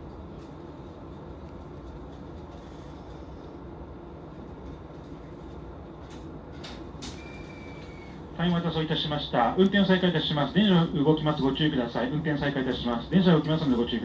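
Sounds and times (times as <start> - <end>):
train machinery humming: 0.0 - 14.0.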